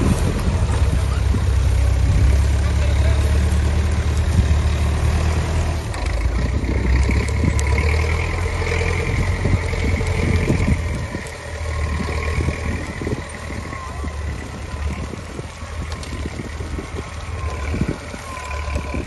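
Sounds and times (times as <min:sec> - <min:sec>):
truck diesel engine drone: 0:00.0 - 0:19.0.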